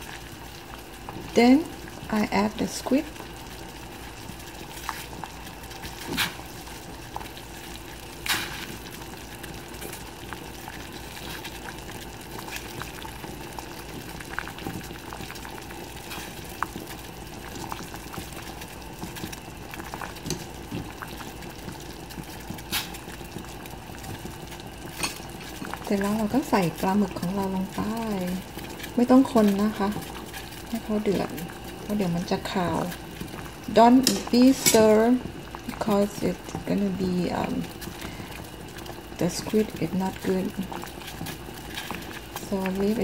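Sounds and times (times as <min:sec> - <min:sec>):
broth bubbling in a saucepan: 0:00.0 - 0:43.0.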